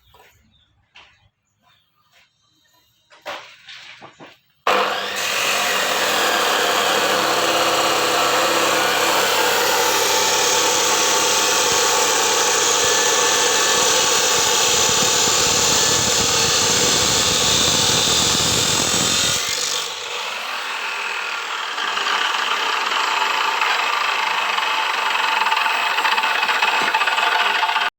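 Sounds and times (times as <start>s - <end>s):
cut-off grinder cutting: 4.7s - 27.9s.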